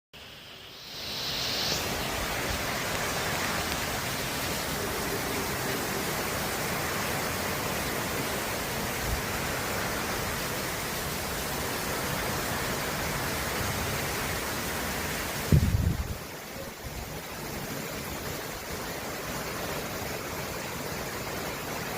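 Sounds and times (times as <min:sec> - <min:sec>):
heavy rain pouring: 0:00.2 - 0:21.9.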